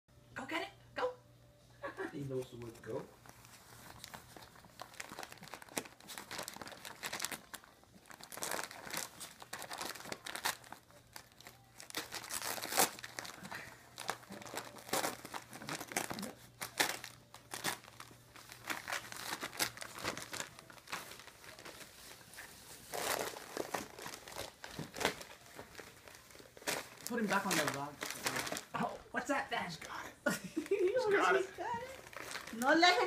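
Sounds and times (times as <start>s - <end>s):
wrapping paper crinkling and tearing: 2.5s - 29.0s, 30.6s - 33.0s.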